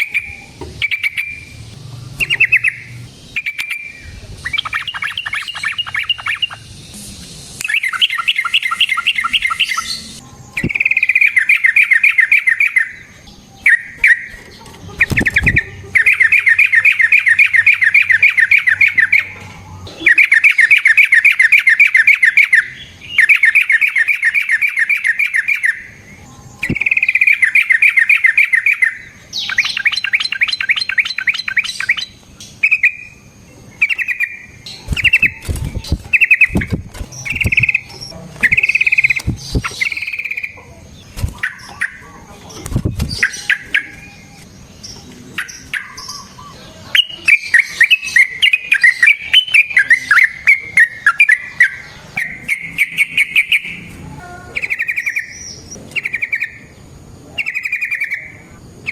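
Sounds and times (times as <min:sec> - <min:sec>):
bulbul chattering song: 0:00.0 - 0:58.9.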